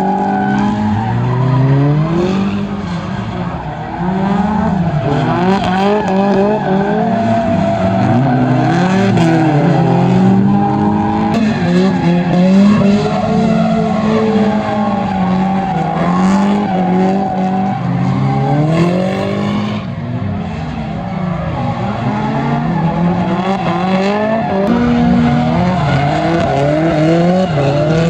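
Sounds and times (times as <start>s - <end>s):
tyre squeal and skidding: 0.0s - 20.0s, 20.7s - 28.0s
car engines revving: 0.0s - 28.0s.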